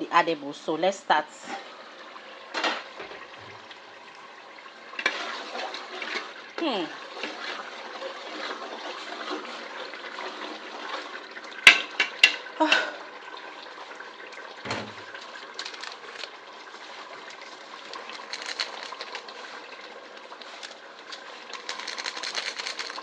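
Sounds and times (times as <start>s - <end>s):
stew cooking in a pot: 0.0s - 23.0s.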